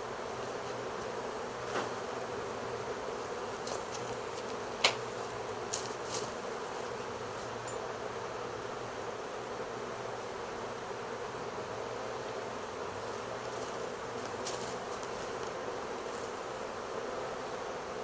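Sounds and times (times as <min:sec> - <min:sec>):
bee swarm buzzing: 0:00.0 - 0:18.0.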